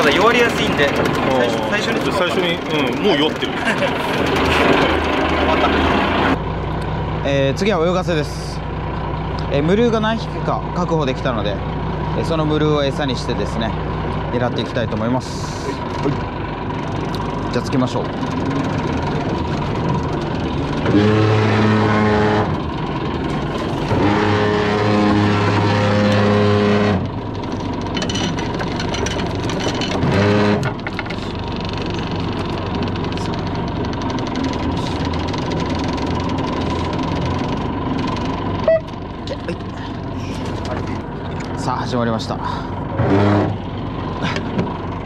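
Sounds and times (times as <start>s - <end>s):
boat engine running: 0.0s - 45.0s
wind: 0.0s - 45.0s.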